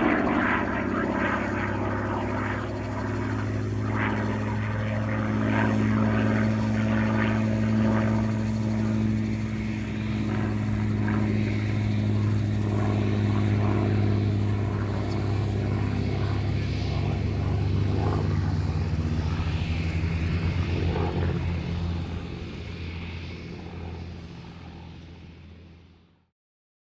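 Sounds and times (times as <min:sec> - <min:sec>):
aircraft engine deep drone: 0:00.0 - 0:26.3.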